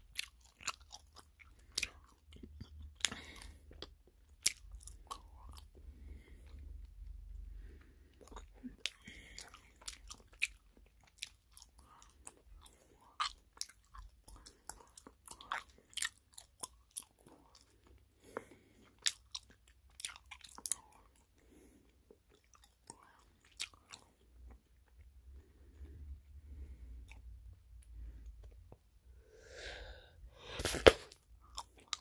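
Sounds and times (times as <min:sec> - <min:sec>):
gum chewing clicks and smacks: 0:00.0 - 0:29.0, 0:30.6 - 0:32.0.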